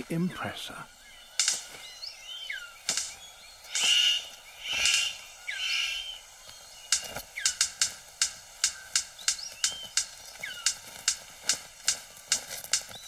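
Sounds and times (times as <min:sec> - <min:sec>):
bird harsh rasping calls: 0:00.0 - 0:11.2
bird sharp clicks: 0:01.3 - 0:13.0.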